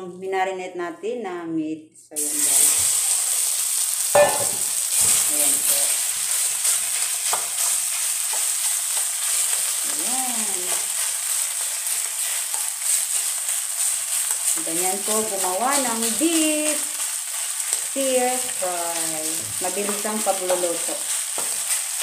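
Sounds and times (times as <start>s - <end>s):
beef sizzling in oil: 2.2s - 22.0s.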